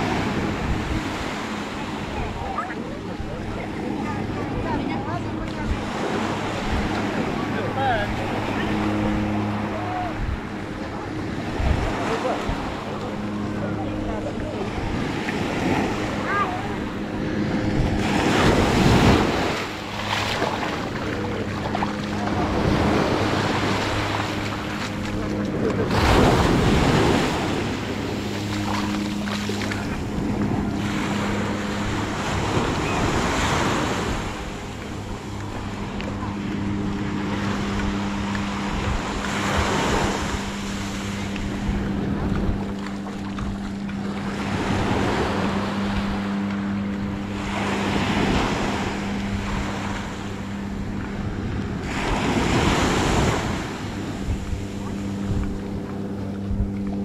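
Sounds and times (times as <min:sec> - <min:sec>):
small waves breaking on sand: 0:00.0 - 0:57.0
steady low hum: 0:00.0 - 0:57.0
wind on microphone: 0:00.0 - 0:57.0.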